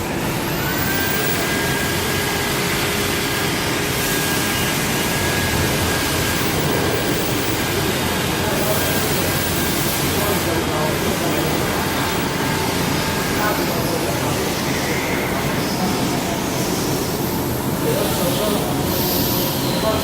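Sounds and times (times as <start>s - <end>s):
faint machine whine: 0.0s - 20.0s
printing press running: 0.0s - 20.0s.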